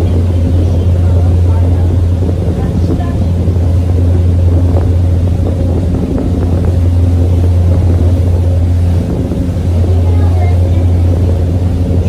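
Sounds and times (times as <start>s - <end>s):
boat engine low drone: 0.0s - 12.0s.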